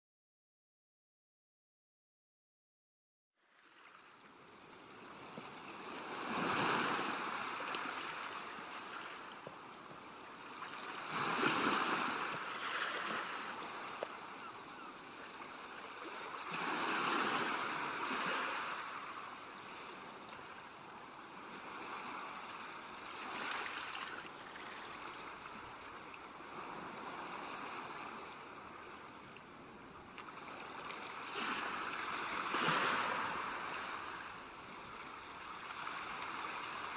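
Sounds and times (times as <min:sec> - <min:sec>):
gentle waves washing onto shore: 0:03.5 - 0:36.9.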